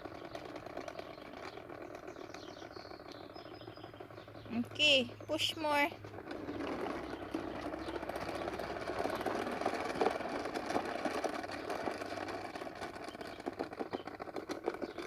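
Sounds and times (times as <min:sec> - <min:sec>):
toy motor whirring: 0:00.0 - 0:15.0.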